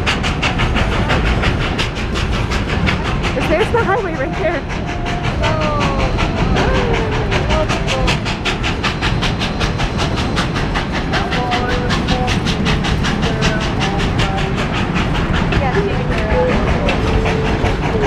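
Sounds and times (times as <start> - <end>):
steam locomotive rapid beat: 0.0 - 18.0
train running rumble: 0.0 - 18.0.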